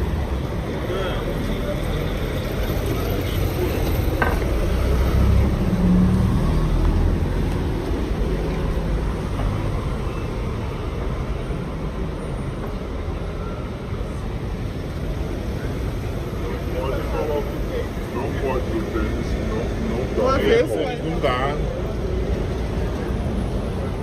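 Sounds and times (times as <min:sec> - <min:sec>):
low street rumble: 0:00.0 - 0:24.0.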